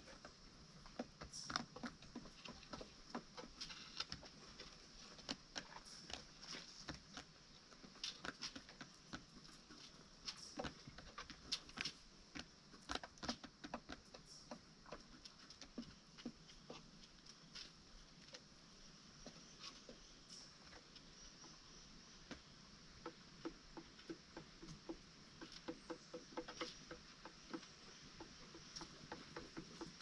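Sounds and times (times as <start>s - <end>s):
chickens pecking and scratching: 0.0s - 30.0s.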